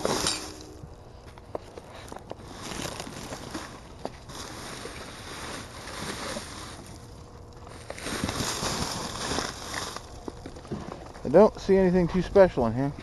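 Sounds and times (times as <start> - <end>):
trash bags rustling: 0.0 - 0.9, 1.9 - 12.5.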